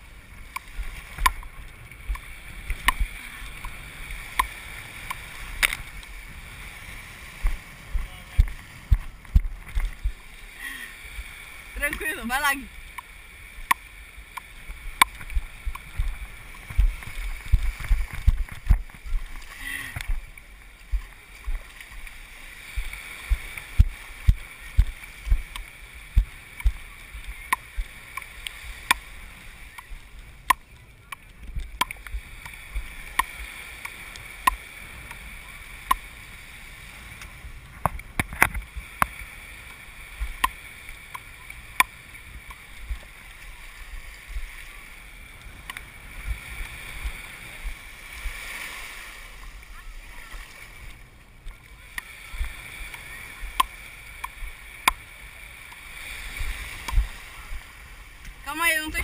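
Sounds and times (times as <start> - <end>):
small surf washing: 0.0 - 59.0.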